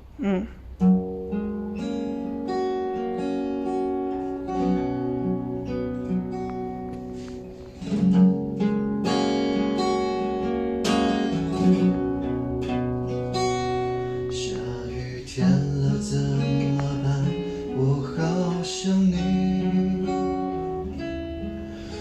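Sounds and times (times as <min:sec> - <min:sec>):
acoustic guitar strumming chords: 0:00.7 - 0:22.0.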